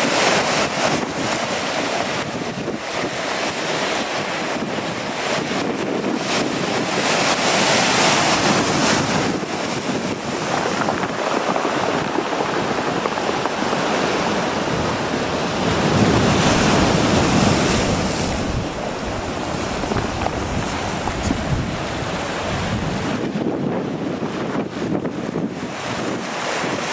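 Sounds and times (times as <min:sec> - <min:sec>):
ocean surf: 0:00.0 - 0:26.9
wind buffeting microphone: 0:00.0 - 0:26.9.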